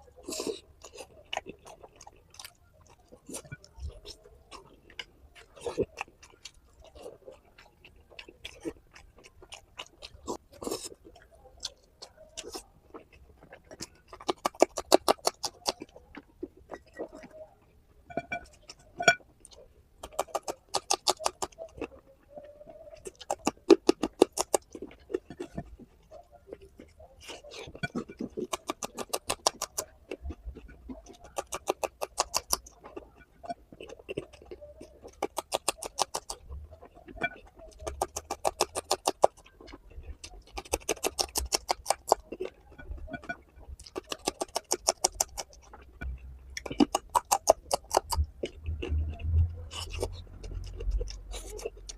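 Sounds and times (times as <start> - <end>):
open-mouth chewing: 0.0 - 51.9.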